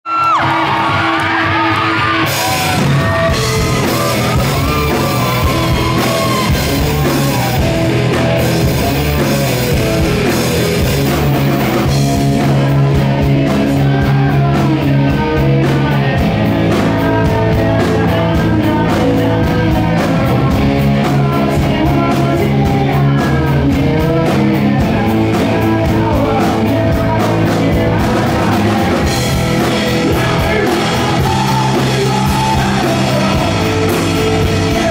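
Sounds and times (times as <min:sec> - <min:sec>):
person singing: 0:00.1 - 0:09.4, 0:11.0 - 0:34.9
rock band playing: 0:00.1 - 0:34.9
steady drum beat: 0:00.1 - 0:34.9.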